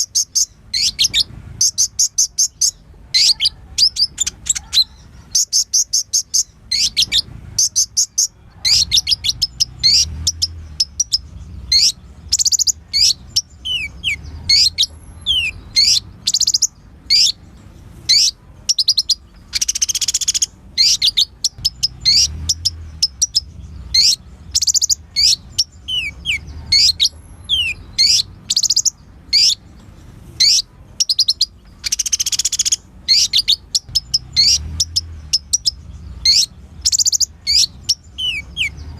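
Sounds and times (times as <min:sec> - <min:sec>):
sunbird singing: 0:00.0 - 0:38.9.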